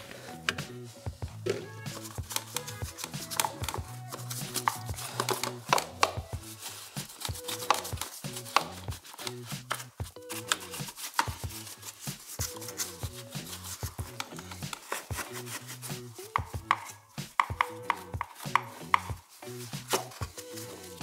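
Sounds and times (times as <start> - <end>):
background music: 0.0 - 21.0
paintbrush scrubbing plastic panel: 1.4 - 21.0.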